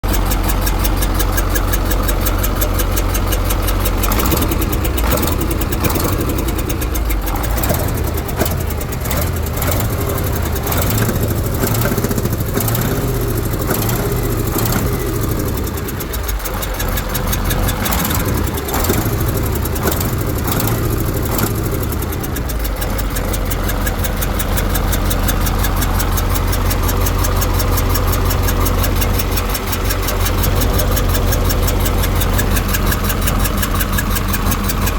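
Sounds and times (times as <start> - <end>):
diesel truck engine running: 0.0 - 34.9
engine knocking: 0.0 - 34.9.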